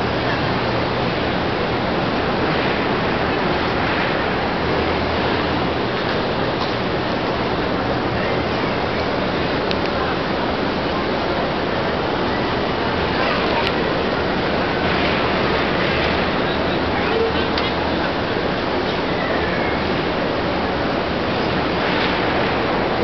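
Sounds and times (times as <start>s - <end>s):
crowd noise: 0.0s - 23.0s.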